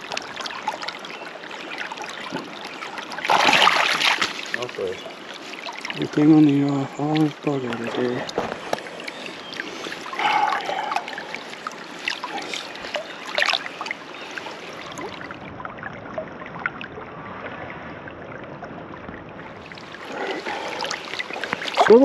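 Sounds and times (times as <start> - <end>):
creek water trickling: 0.0 - 22.0.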